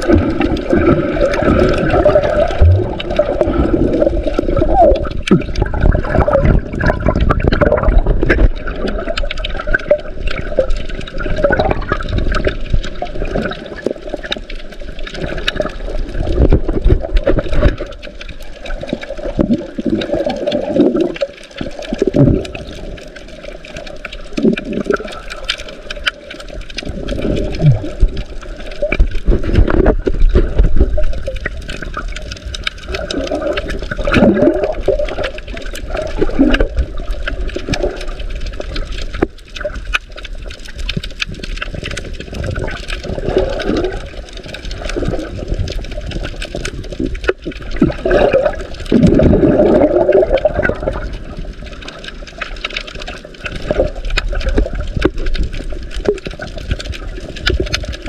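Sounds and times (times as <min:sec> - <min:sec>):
underwater water sloshing: 0:00.0 - 0:58.0.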